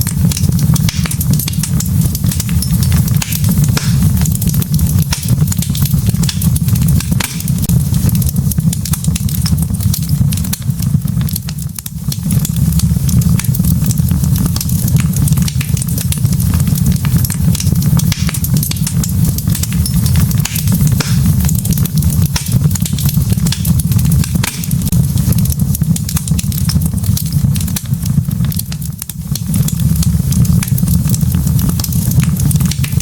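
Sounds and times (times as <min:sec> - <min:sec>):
logs crackling in fireplace: 0:00.0 - 0:33.0.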